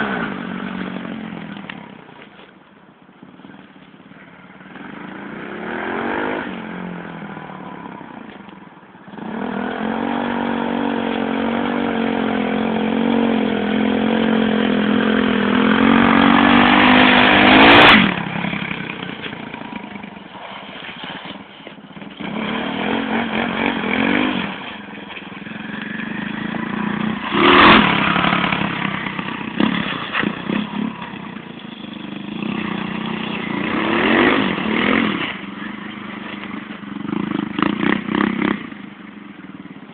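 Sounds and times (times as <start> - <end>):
dirt bike engine revving: 4.7 - 7.6, 9.1 - 39.3.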